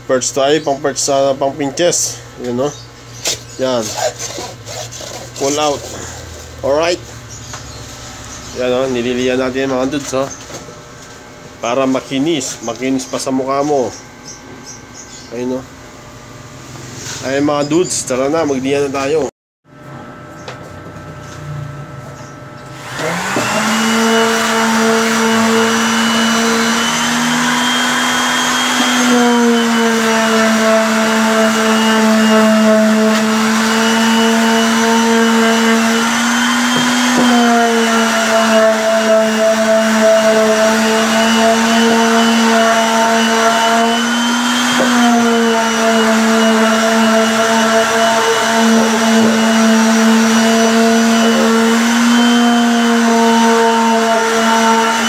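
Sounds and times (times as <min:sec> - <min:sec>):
electric palm sander running: 0:00.1 - 0:55.0.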